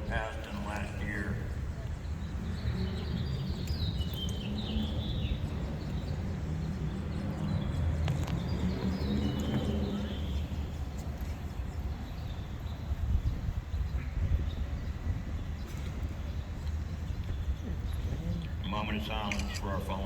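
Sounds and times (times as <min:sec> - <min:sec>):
birds chirping: 0:00.0 - 0:20.0
low outdoor rumble: 0:00.0 - 0:20.0.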